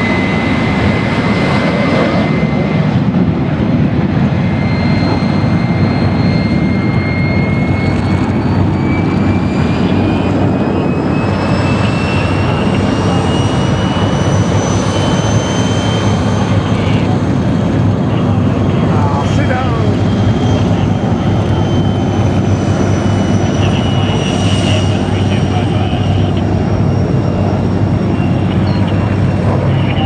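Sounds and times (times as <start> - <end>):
aircraft engine with rising whine: 0.0 - 30.0.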